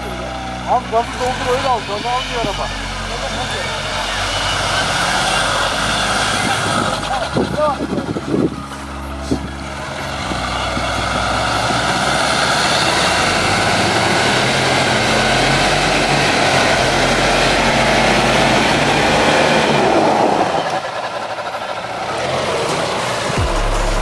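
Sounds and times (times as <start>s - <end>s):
truck engine revving: 0.0s - 24.0s
tyres spinning in snow: 3.2s - 23.4s.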